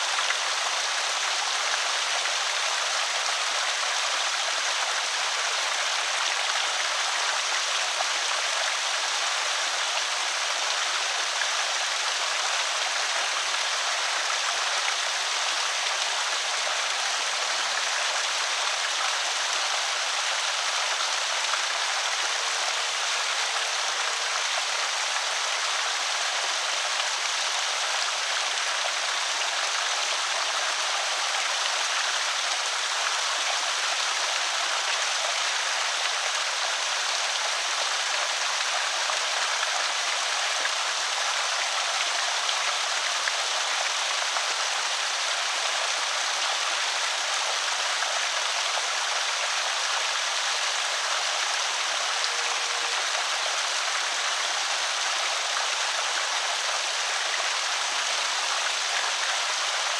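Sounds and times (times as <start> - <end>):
water rushing over spillway: 0.0 - 59.9.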